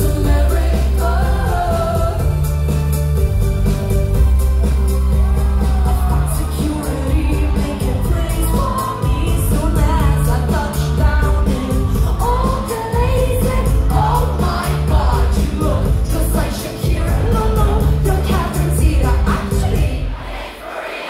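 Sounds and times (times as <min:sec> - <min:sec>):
women singing into microphones: 0:00.0 - 0:02.5, 0:06.0 - 0:20.4
band playing pop music: 0:00.0 - 0:20.4.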